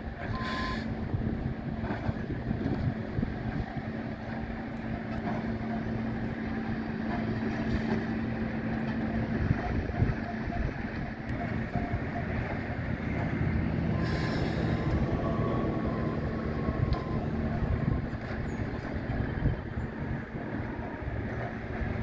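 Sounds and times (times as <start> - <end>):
machinery engine drone: 0.0 - 22.0.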